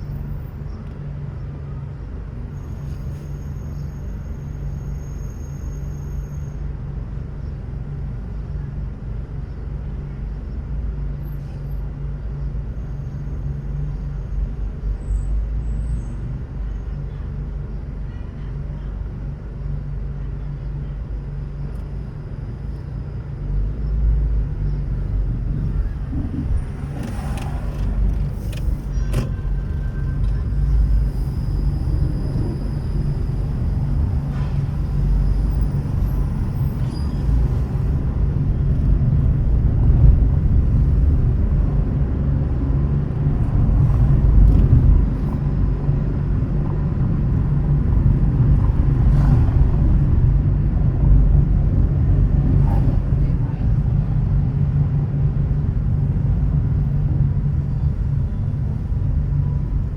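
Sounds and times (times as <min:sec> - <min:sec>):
car driving in traffic: 0:00.0 - 0:59.9.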